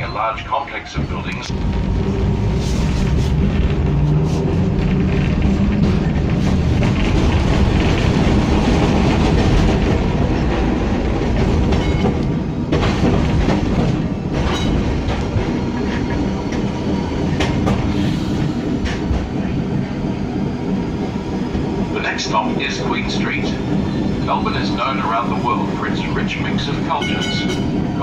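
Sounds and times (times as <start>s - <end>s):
tram wheels rumbling on track: 0.0s - 28.0s.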